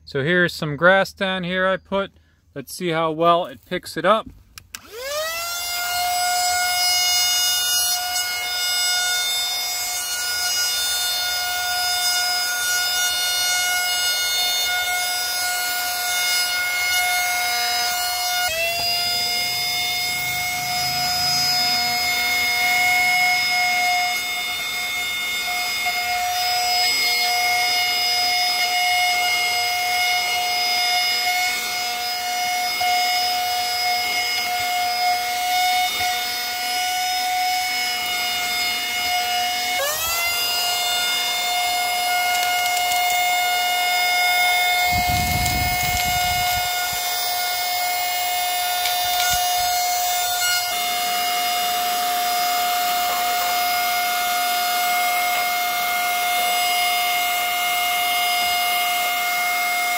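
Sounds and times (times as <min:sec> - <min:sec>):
handheld vacuum motor whining: 0:03.5 - 0:59.9.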